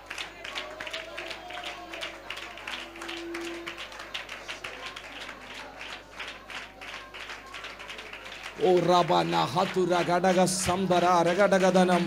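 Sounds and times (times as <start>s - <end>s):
congregation clapping: 0.0s - 12.0s
soft worship music: 0.0s - 12.0s.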